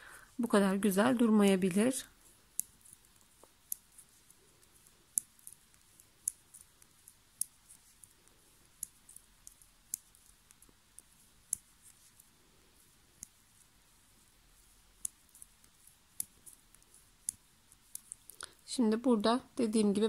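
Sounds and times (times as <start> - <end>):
metal knitting needles clicking: 1.0 - 19.3.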